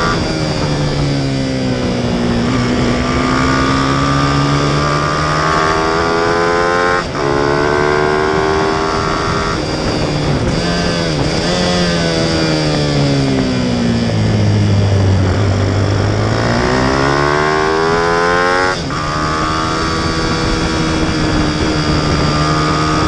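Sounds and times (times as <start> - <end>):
racing motorcycle engine revving: 0.0 - 23.0.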